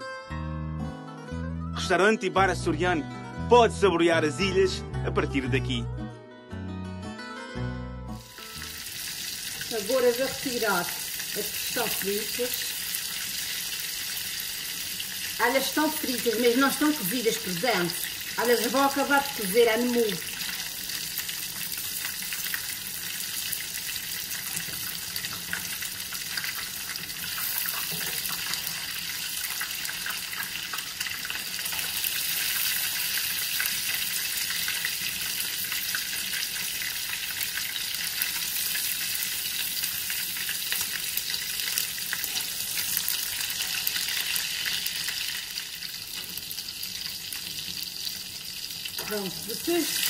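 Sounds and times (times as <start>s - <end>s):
patties sizzling in oil: 8.2s - 50.0s.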